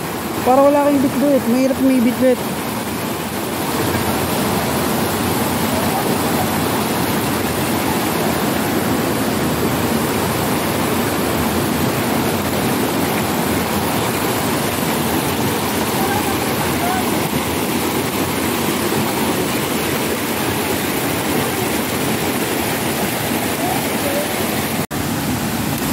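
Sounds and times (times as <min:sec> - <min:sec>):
river rapids rushing: 0:00.0 - 0:25.9.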